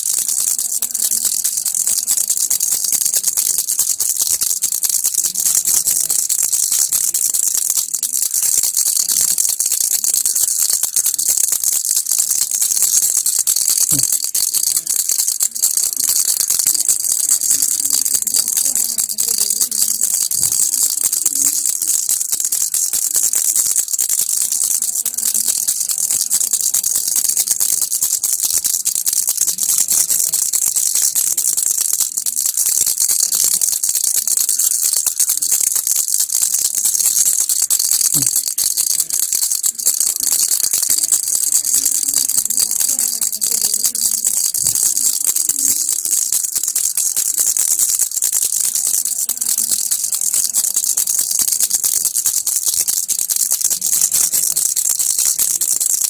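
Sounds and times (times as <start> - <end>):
baby rattle shaking: 0.0 - 56.0.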